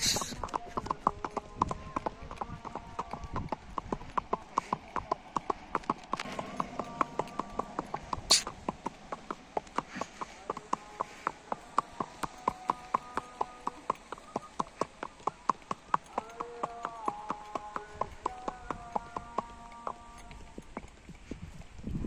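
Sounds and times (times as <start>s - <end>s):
hooves on paved road: 0.0s - 22.0s.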